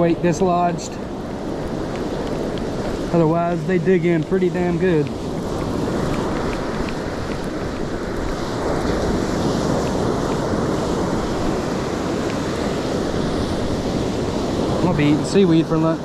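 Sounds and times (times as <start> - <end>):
ocean surf washing ashore: 0.0 - 16.0
wind blowing across microphone: 0.0 - 16.0.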